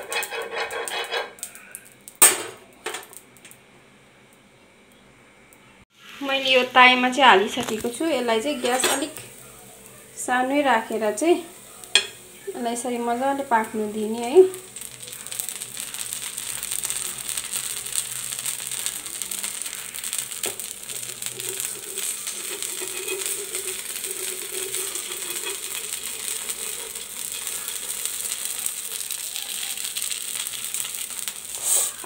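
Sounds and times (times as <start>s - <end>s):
flatbread sizzling on a pan: 0.0s - 2.3s, 5.9s - 32.0s.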